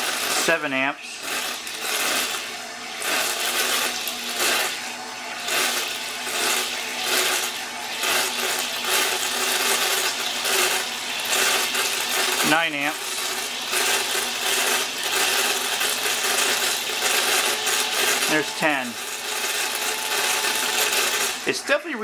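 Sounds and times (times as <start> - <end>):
vacuum motor hum: 0.0 - 22.0.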